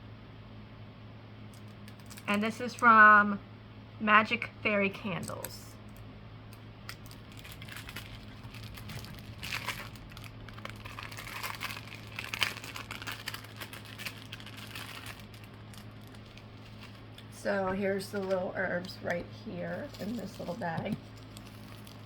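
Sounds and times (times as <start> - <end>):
faint low hum: 0.0 - 22.0
packaging crinkling and rustling: 1.5 - 2.8, 5.2 - 22.0.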